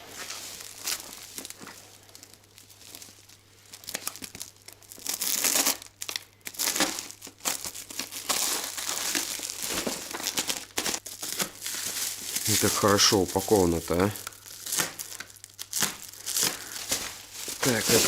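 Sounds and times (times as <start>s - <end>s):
packaging tearing and crinkling: 0.0s - 18.0s.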